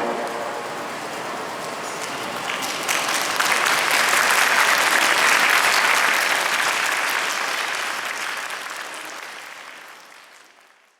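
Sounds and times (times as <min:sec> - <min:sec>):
audience applauding: 0:02.0 - 0:10.9.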